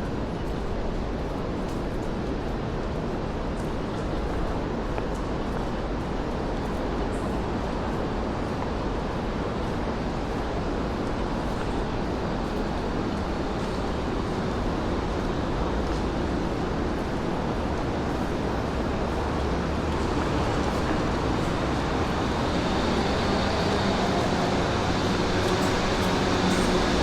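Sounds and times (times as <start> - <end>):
traffic: 0.0 - 27.0
urban hum: 0.0 - 27.0.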